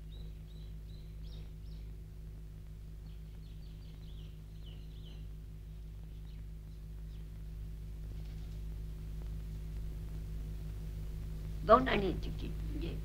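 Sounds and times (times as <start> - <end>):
small birds chirping faintly: 0.0 - 13.0
steady low hum: 0.0 - 13.0.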